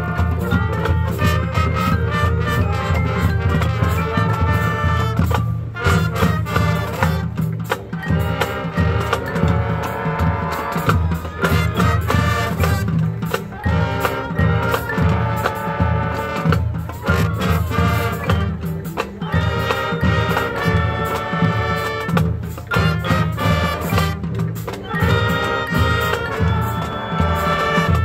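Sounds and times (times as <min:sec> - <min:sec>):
brass chords and melody: 0:00.0 - 0:28.0
drumline percussion: 0:00.0 - 0:28.0.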